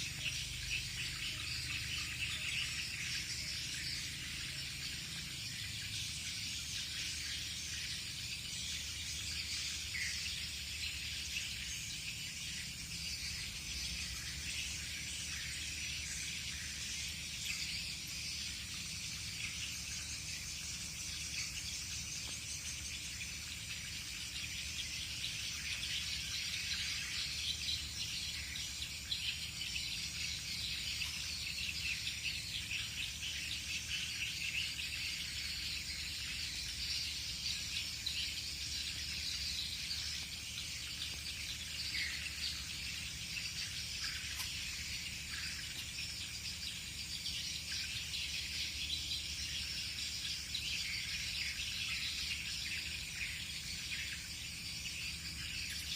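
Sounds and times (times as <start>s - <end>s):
bird chirps: 0.0s - 55.9s
insects chorus: 0.0s - 55.9s.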